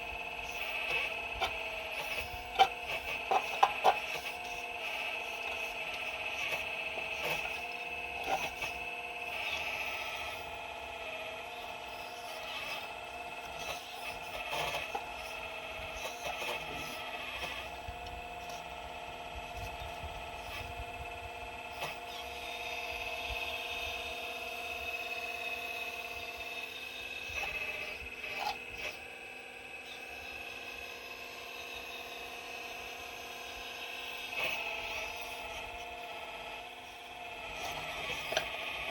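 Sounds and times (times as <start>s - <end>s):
excavator hydraulics whining: 0.0s - 38.9s.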